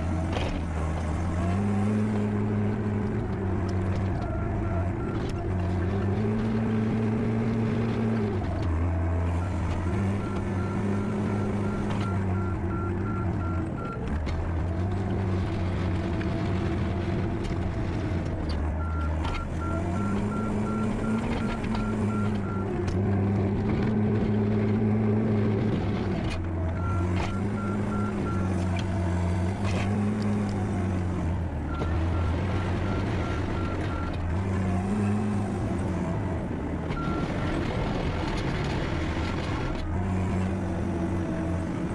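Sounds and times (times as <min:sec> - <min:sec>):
skid steer diesel engine: 0:00.0 - 0:41.9.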